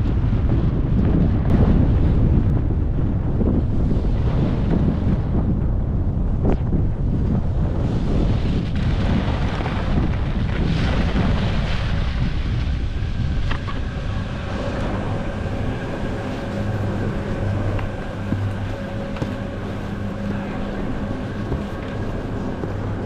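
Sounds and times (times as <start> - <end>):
steady mechanical hum: 0.0 - 23.0
wind buffeting microphone: 0.0 - 23.0.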